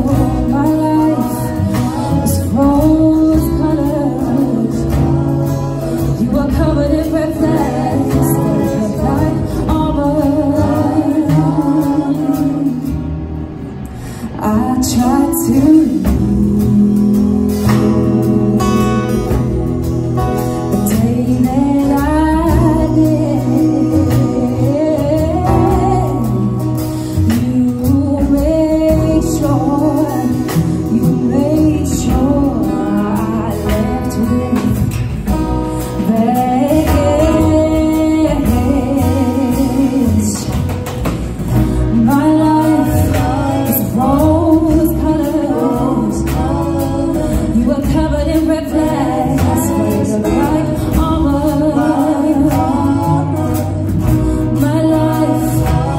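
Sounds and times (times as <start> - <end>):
woman singing: 0.0 - 13.2, 14.2 - 55.9
acoustic guitar: 0.0 - 55.9
upright bass: 0.0 - 55.9.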